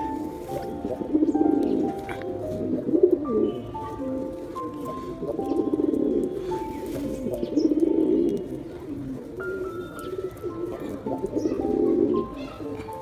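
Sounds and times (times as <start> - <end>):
background music with held notes: 0.0 - 13.0
pigeon cooing: 0.0 - 13.0.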